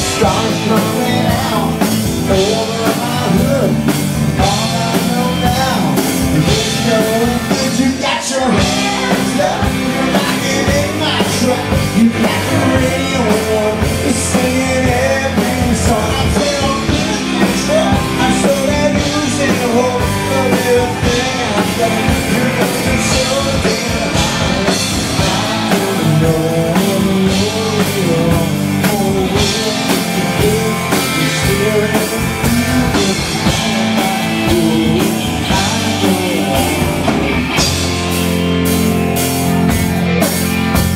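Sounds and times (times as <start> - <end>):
person singing: 0.0 - 37.9
distorted electric guitar: 0.0 - 40.9
drum kit beat: 0.0 - 40.9.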